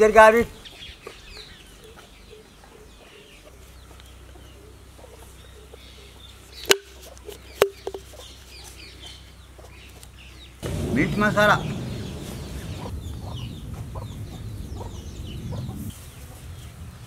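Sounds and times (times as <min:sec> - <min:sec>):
chickens clucking: 0:00.6 - 0:16.8.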